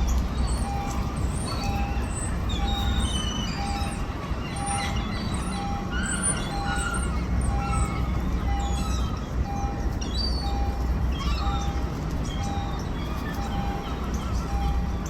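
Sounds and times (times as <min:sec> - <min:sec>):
birds chirping and whistling: 0:00.0 - 0:09.2, 0:10.0 - 0:15.0.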